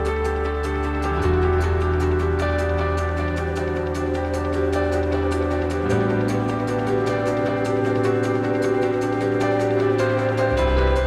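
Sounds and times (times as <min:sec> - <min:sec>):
background music with sustained chords: 0:00.0 - 0:11.0.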